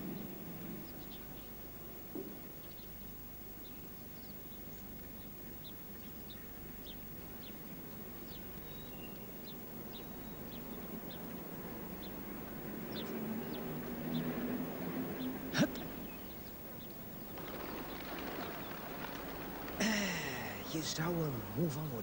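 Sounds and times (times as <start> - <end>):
low background hum: 0.0 - 22.0
small birds chirping: 0.0 - 22.0.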